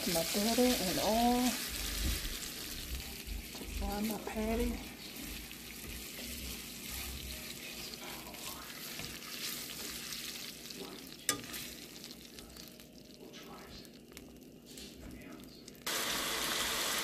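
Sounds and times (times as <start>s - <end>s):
butter and oil sizzling in pan: 0.0s - 17.0s.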